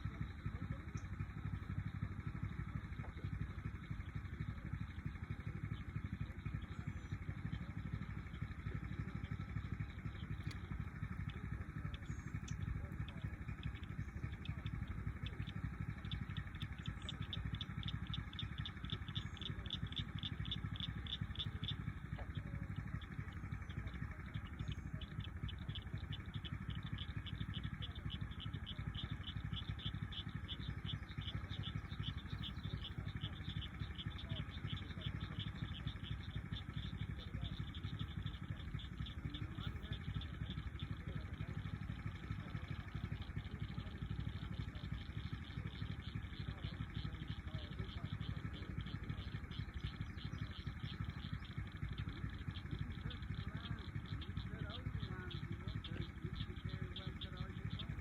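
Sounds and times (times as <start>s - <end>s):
steady low rumble: 0.0s - 58.0s
high chirping chorus: 9.0s - 58.0s.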